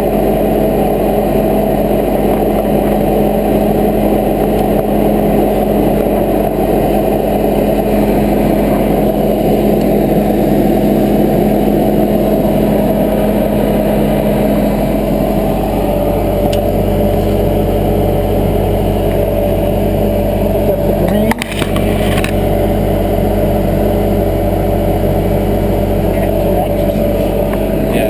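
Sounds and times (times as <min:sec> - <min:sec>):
skid steer engine running: 0:00.0 - 0:28.0.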